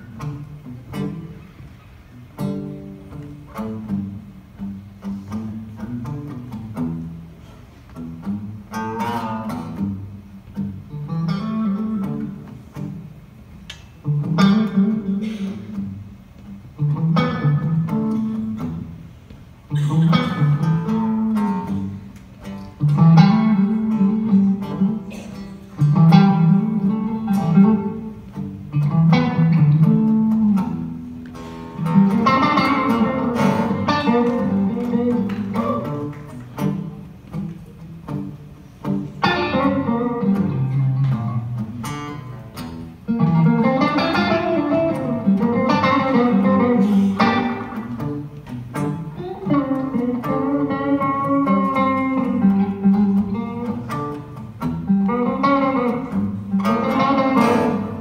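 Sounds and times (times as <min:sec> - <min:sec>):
electric guitar solo: 0:00.0 - 0:19.0, 0:19.6 - 0:58.0.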